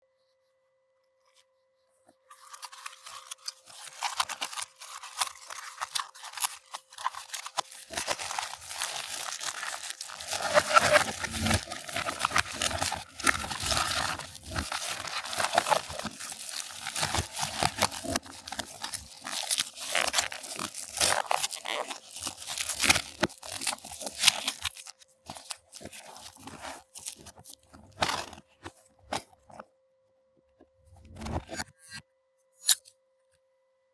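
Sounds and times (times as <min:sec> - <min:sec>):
crinkling plastic and cardboard: 0:02.1 - 0:29.7.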